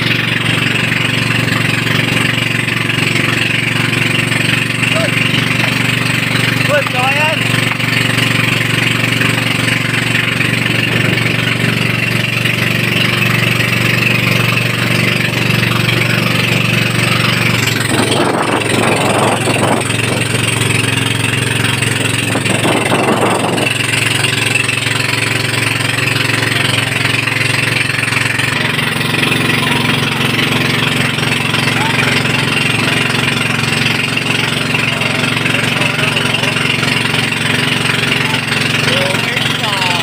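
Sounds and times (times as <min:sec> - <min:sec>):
boat motor running: 0:00.0 - 0:40.0.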